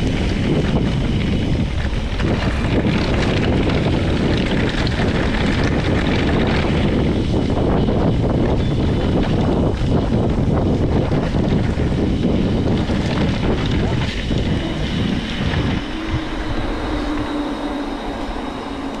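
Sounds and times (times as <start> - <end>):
tyres rumbling over gravel: 0.0 - 19.0
wind buffeting microphone: 0.0 - 19.0.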